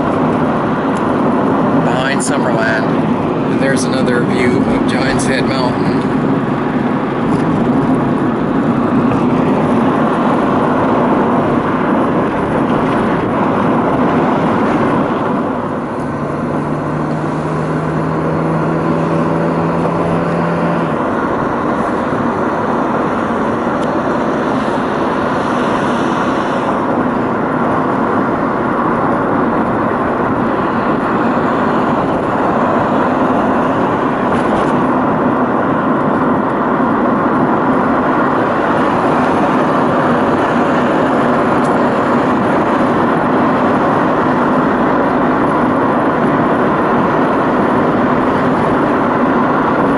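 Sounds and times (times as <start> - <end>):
vehicle engine and tyre noise: 0.0 - 49.9.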